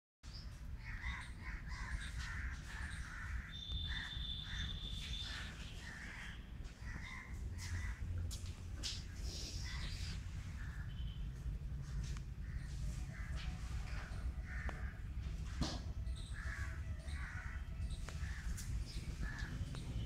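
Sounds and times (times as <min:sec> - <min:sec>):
harsh bird calls: 0:00.3 - 0:20.0.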